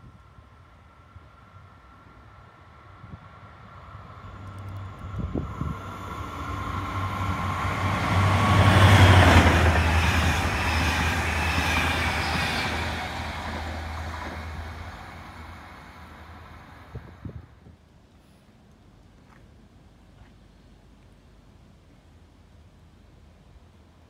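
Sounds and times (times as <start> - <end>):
train rumble and wheel noise: 0.0 - 24.0.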